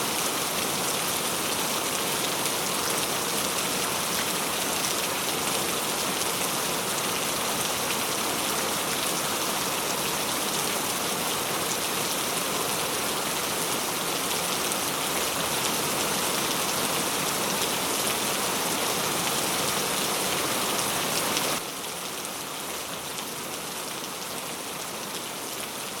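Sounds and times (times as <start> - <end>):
dense rainfall hiss: 0.0 - 26.0.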